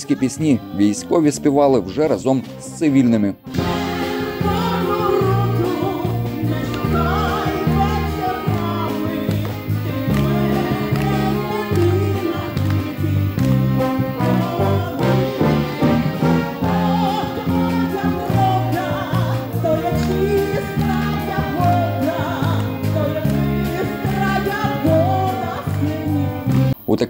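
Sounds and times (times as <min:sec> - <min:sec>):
voices singing: 0:00.0 - 0:26.8
brass band playing: 0:03.5 - 0:26.7.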